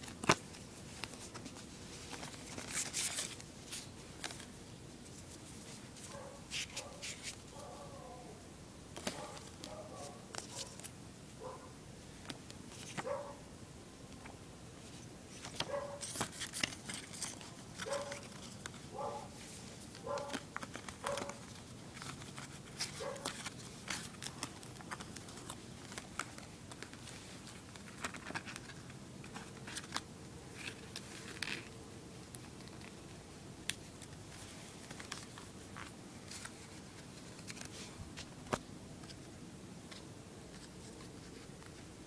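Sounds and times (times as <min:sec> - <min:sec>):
paper and cardboard rustling: 0:00.0 - 0:07.8, 0:09.0 - 0:10.9, 0:12.2 - 0:13.2, 0:14.8 - 0:33.1, 0:33.8 - 0:39.3.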